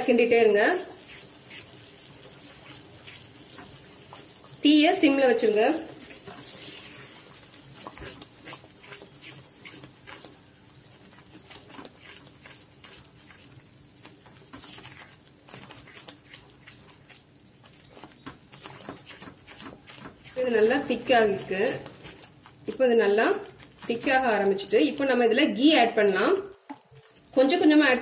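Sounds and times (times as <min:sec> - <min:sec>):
spatula stirring thick batter: 0:00.0 - 0:28.0.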